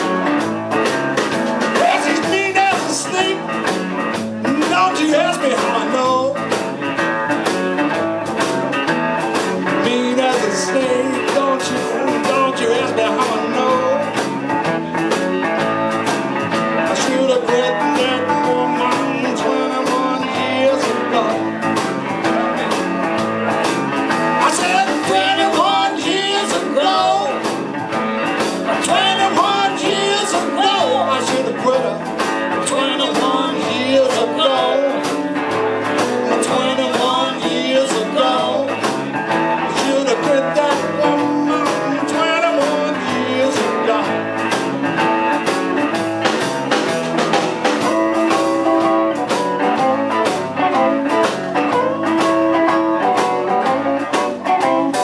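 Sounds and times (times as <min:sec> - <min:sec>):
blues band playing: 0:00.0 - 0:55.0.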